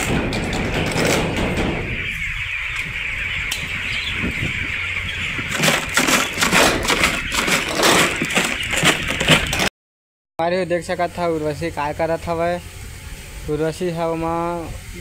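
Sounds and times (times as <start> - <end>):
flock of chickens calling: 0.0 - 9.7, 11.2 - 15.0.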